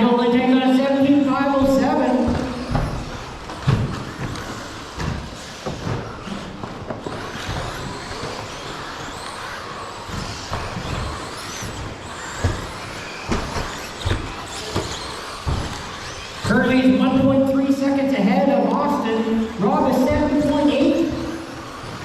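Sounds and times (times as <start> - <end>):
electric motor whine: 1.1 - 18.1, 18.8 - 22.0.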